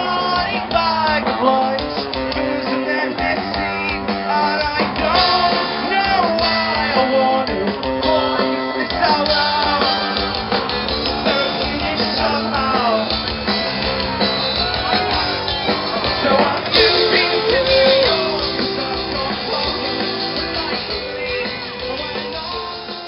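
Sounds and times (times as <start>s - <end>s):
person singing: 0.0s - 10.3s, 11.1s - 13.3s, 16.0s - 23.0s
live rock band playing: 0.0s - 23.0s.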